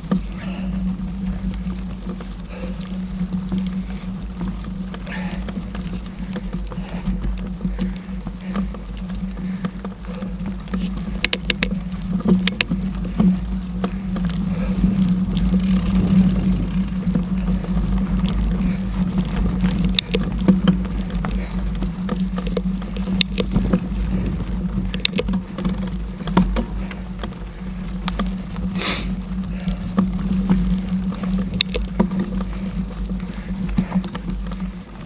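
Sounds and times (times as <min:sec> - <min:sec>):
bike clicks and rattles: 0:00.0 - 0:35.0
bike tyres rumbling on dirt: 0:00.0 - 0:35.0
wind on microphone: 0:00.0 - 0:35.0.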